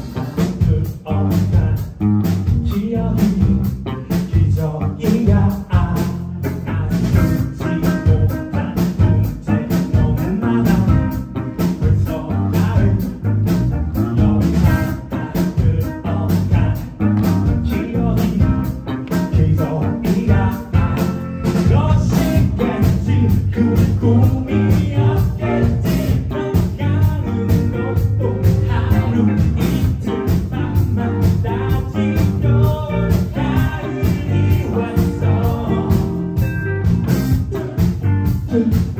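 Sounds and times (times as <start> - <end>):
live band music: 0.0 - 38.9
steady drum beat: 0.0 - 38.9.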